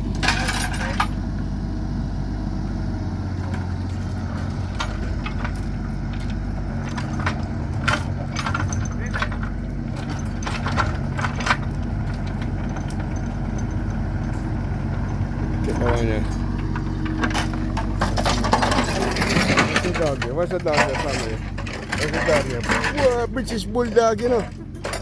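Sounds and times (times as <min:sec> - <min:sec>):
engine running: 0:00.0 - 0:25.0
light metallic clinks: 0:03.5 - 0:25.0.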